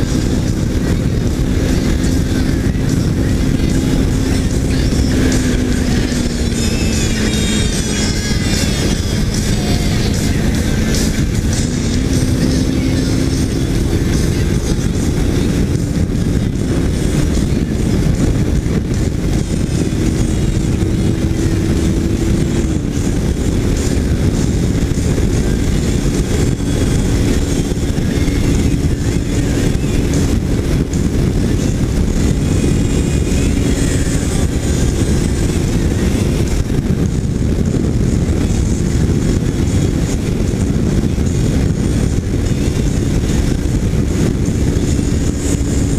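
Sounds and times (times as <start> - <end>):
motorcycle engine pulling: 0.0 - 45.9
wind rush: 0.0 - 45.9.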